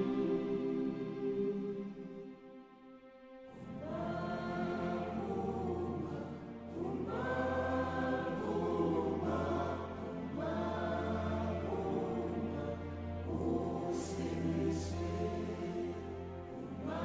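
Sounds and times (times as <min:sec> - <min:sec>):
choir singing long chords: 0:00.0 - 0:17.0.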